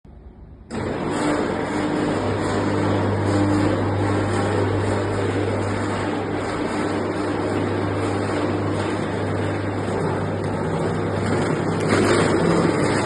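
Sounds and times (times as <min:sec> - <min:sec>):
machine motor humming: 0:00.6 - 0:13.0.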